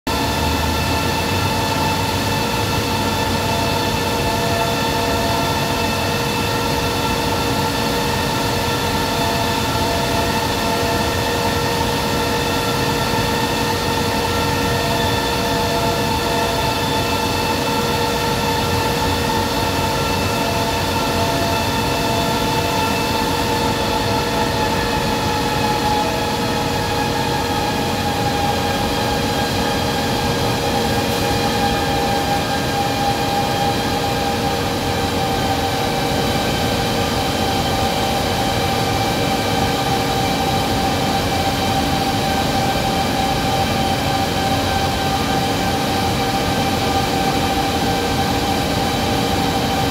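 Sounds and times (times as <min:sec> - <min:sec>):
industrial machinery drone: 0:00.1 - 0:49.9.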